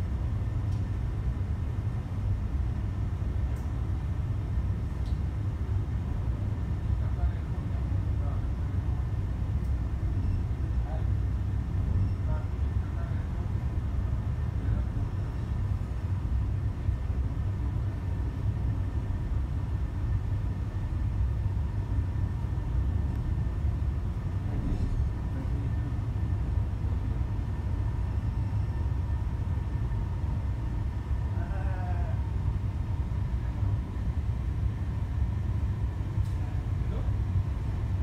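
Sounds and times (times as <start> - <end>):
faint steady hum: 0.0 - 38.0
low engine rumble: 0.0 - 38.0.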